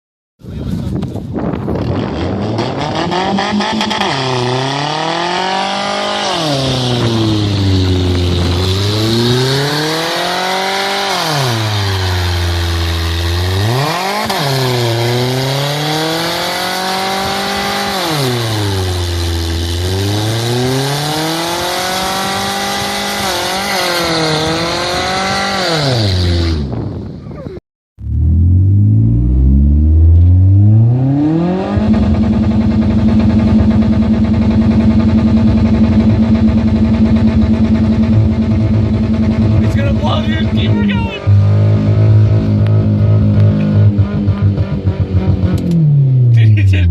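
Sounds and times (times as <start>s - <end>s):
car engine revving: 1.7s - 26.9s, 28.0s - 46.9s.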